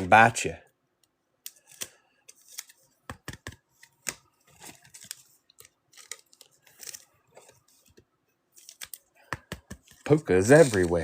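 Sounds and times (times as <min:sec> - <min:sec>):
cards clicking and rustling: 0:01.4 - 0:11.0.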